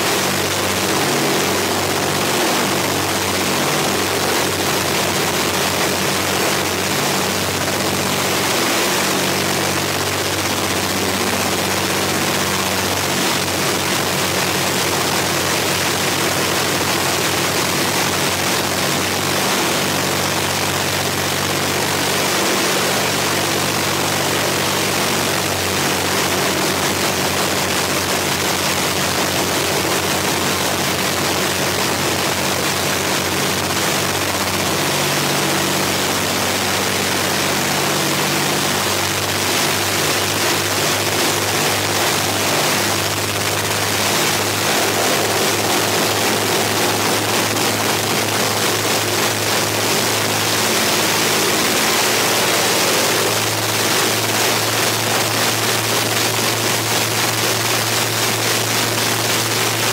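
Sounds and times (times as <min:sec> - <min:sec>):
aircraft engines running: 0:00.0 - 0:59.9
rushing propeller noise: 0:00.0 - 0:59.9.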